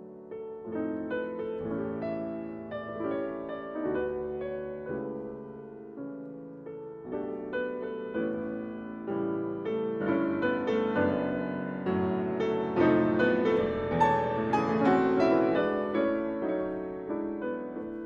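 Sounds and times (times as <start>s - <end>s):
grand piano playing: 0.0s - 18.0s.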